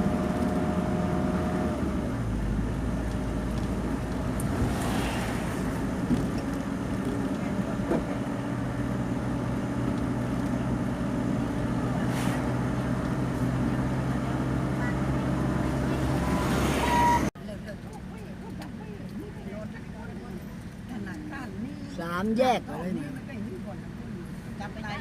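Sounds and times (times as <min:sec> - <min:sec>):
road noise: 0:00.0 - 0:25.0
vehicle engine hum: 0:00.0 - 0:25.0.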